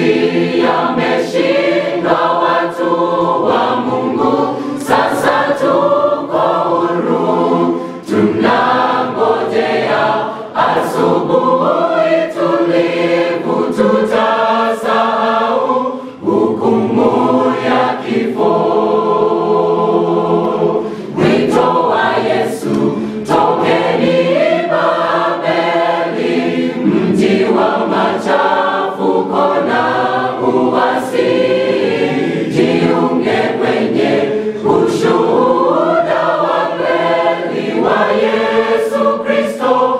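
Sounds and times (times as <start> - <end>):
mixed choir singing gospel: 0.0 - 39.9.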